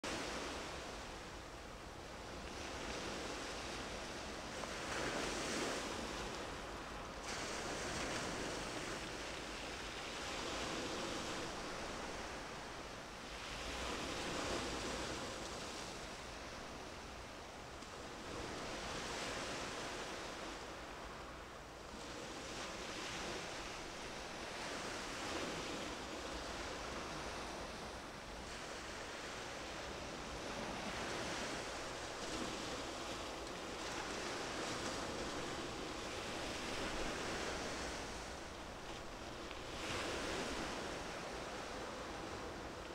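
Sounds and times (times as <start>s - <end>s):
sea waves washing in: 0.0s - 42.9s.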